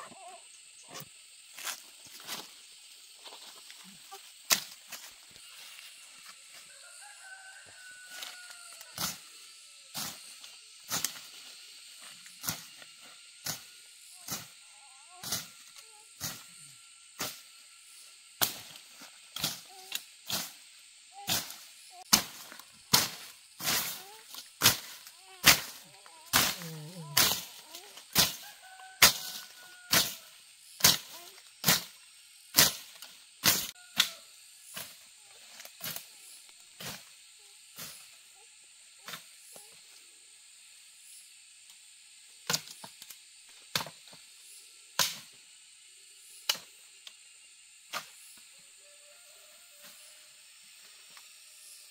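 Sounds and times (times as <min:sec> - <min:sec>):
faint high insect-like hum: 0:00.0 - 0:51.9.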